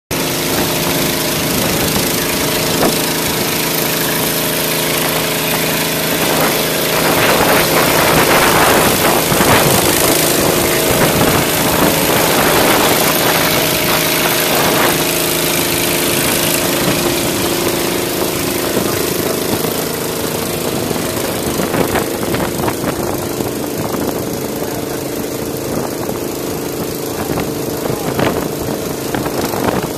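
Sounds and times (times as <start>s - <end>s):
engine humming: 0.1s - 29.9s
noisy rush: 0.1s - 29.9s.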